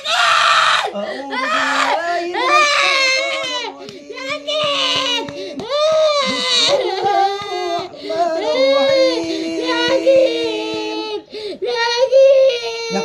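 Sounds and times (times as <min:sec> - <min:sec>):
person wailing: 0:00.0 - 0:12.0.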